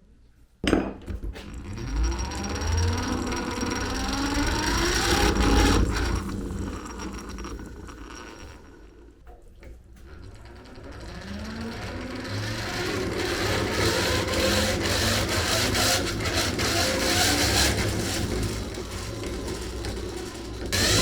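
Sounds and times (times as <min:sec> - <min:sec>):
hand-cranked grinder gears whirring: 0:01.4 - 0:21.0
rough scraping: 0:02.1 - 0:09.2, 0:10.0 - 0:21.0.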